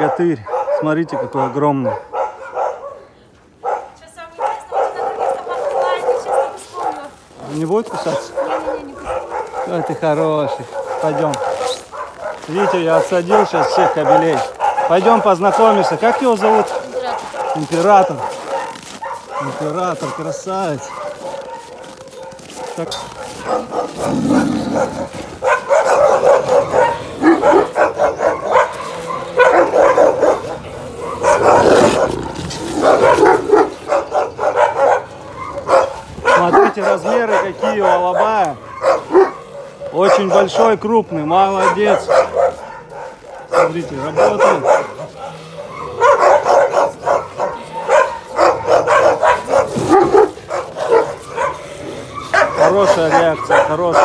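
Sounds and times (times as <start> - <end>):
dog barking: 0.0 - 54.0.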